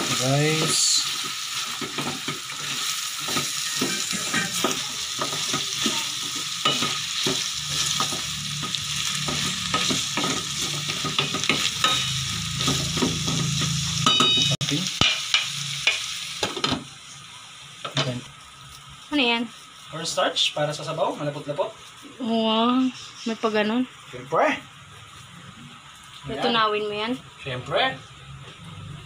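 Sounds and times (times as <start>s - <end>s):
food sizzling in a pan: 0.0s - 29.0s.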